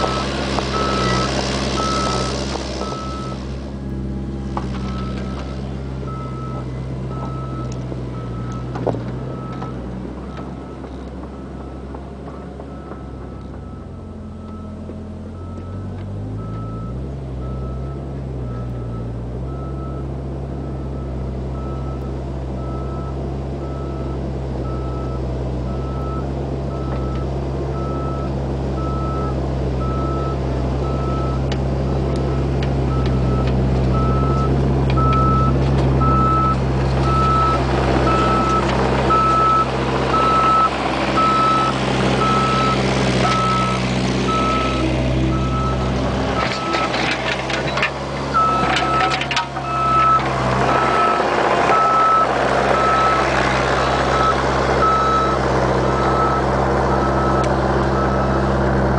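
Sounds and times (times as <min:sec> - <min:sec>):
diesel excavator engine running: 0:00.0 - 0:58.9.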